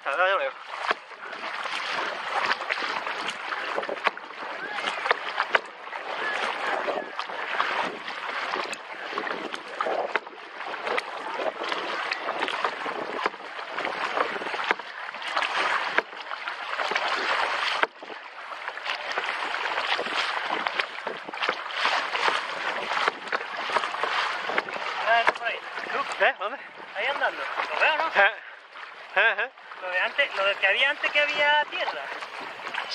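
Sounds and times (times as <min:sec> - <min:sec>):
paddle splashing water: 0:00.0 - 0:32.9.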